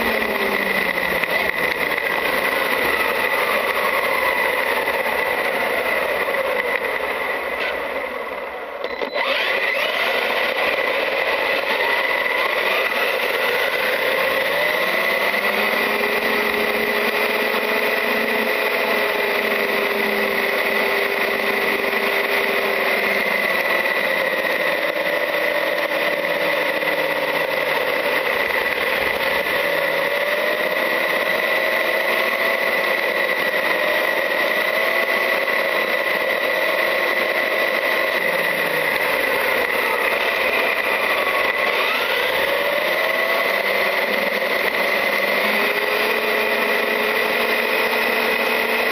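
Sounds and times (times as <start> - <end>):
electric motor whining: 0.0 - 48.9.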